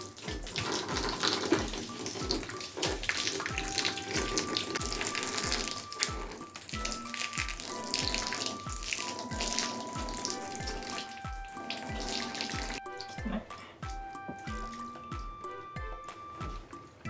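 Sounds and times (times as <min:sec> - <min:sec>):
electronic music with kick drum: 0:00.3 - 0:16.7.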